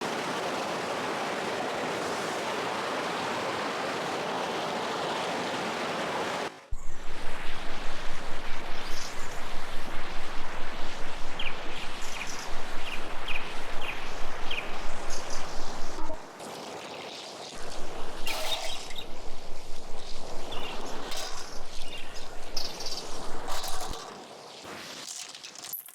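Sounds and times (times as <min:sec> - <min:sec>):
river water rushing: 0:00.0 - 0:16.8, 0:17.6 - 0:24.1.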